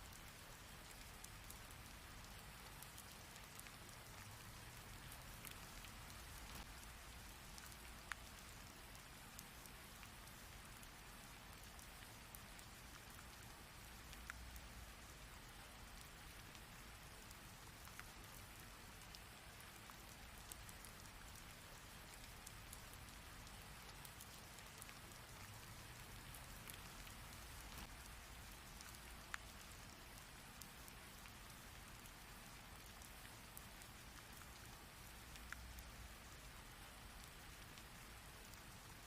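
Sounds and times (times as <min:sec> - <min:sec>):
rain drop ticks: 0:00.0 - 0:39.0.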